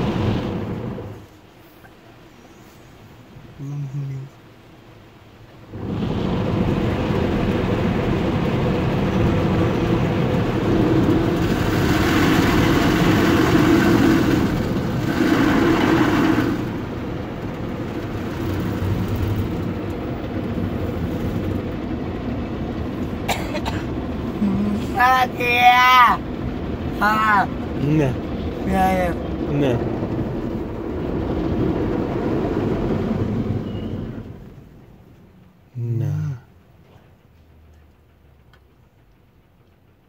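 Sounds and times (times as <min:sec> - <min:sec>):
car wash machinery running: 0:00.0 - 0:03.8, 0:04.4 - 0:40.0
car wash spraying water: 0:00.0 - 0:35.6.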